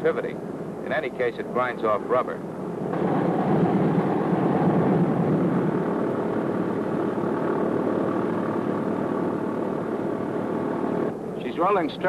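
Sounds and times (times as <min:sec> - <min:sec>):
radial engines running: 0:00.0 - 0:12.0.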